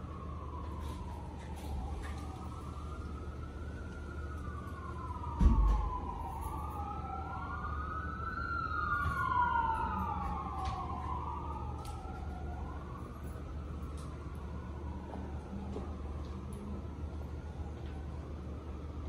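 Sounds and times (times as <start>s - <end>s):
sirens wailing: 0.0s - 19.0s.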